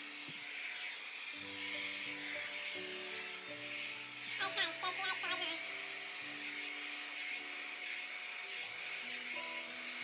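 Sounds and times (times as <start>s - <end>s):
background music: 0.0s - 10.0s
mini blower hissing: 0.0s - 10.0s.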